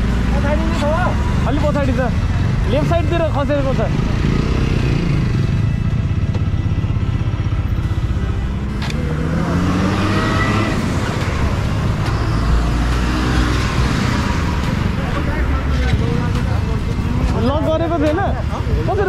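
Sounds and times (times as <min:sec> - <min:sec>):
motorcycle engine: 0:00.0 - 0:18.0
wind and road noise: 0:00.0 - 0:19.0.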